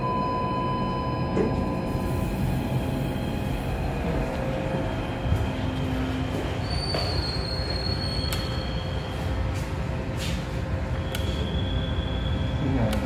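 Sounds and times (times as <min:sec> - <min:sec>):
elevator rumble with hum tones: 0:00.0 - 0:13.0.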